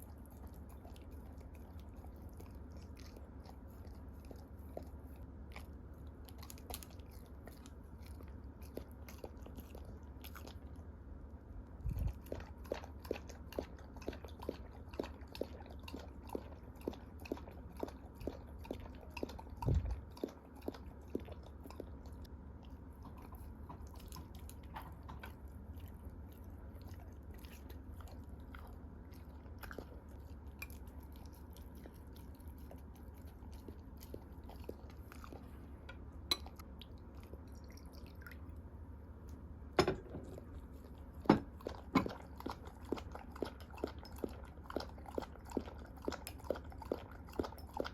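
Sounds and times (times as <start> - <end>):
dog chewing food: 0.0 - 38.7, 39.3 - 47.9.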